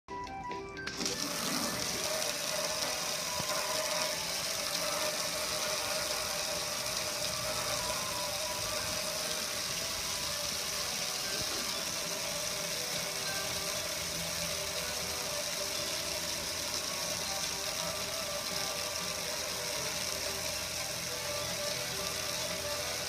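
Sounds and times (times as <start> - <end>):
pressure washer hum: 1.0 - 23.0
water spray on metal: 1.0 - 23.0.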